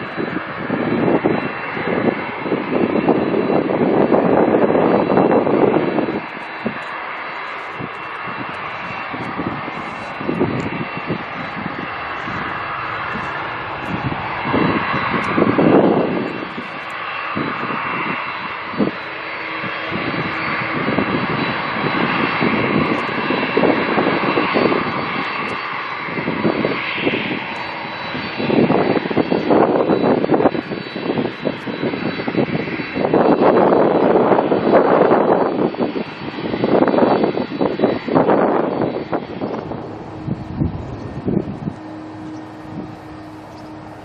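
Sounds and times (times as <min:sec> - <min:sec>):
jet engines whining and roaring: 0:00.0 - 0:44.0.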